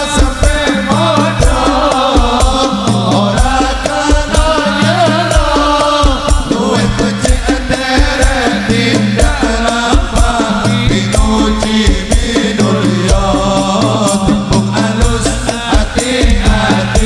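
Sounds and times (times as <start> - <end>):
deep bass drum strokes: 0.0 - 17.0
hand drums: 0.0 - 17.0.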